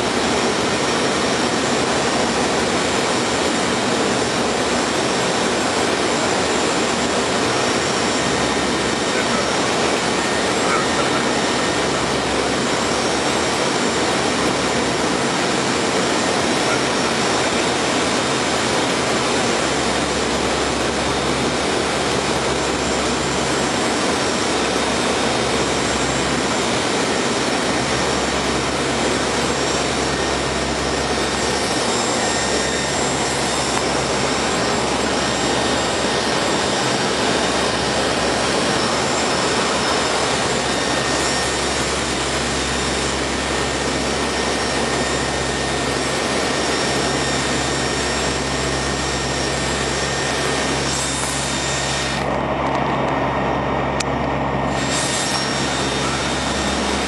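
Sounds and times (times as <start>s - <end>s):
turboprop cabin noise: 0.0s - 57.0s.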